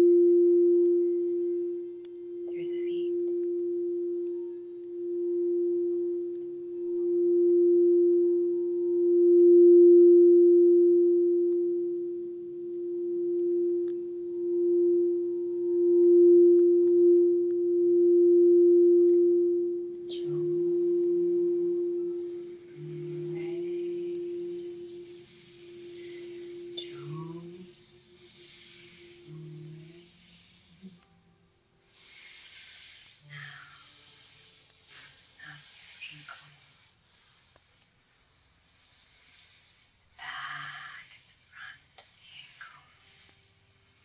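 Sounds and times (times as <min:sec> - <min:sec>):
singing bowl steady tone: 0:00.0 - 0:36.8.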